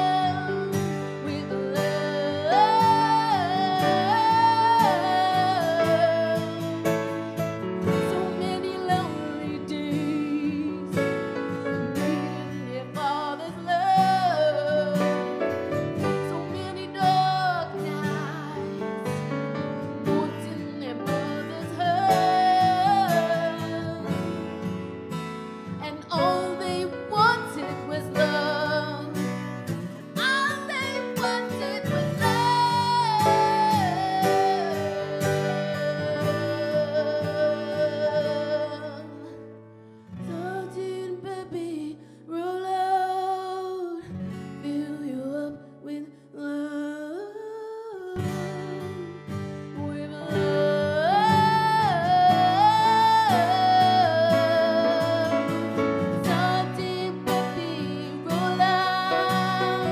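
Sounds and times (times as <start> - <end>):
woman singing a slow ballad: 0.0 - 39.6, 40.2 - 59.9
grand piano: 0.0 - 39.8, 48.8 - 59.9
acoustic guitar: 0.0 - 59.9.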